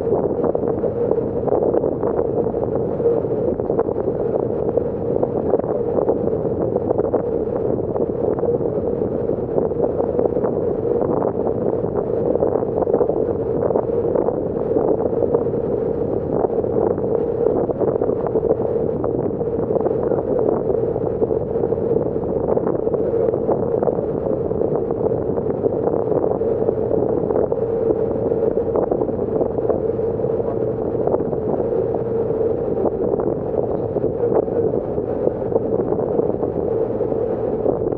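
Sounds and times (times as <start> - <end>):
ferry engine drone: 0.0 - 37.9
wind buffeting microphone: 0.0 - 37.9.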